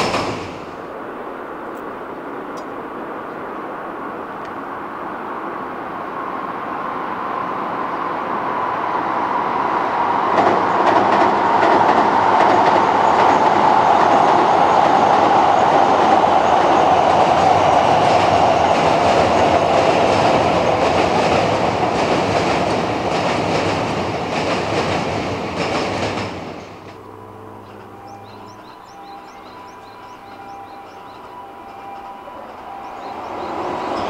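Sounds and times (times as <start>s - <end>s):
train rumbling on steel bridge: 0.0s - 34.0s.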